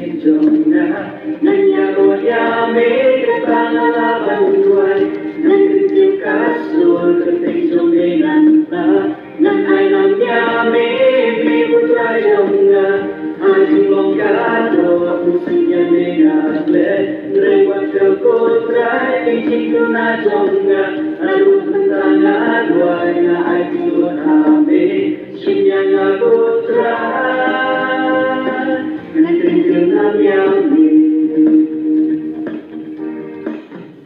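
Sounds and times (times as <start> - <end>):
group singing a dance song: 0.0 - 32.8.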